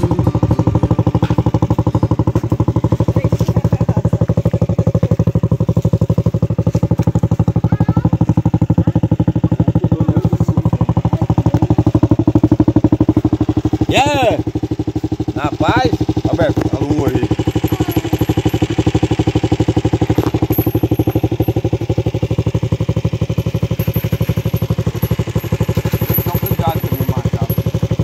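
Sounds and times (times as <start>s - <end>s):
motorbike engine idling: 0.0s - 28.0s.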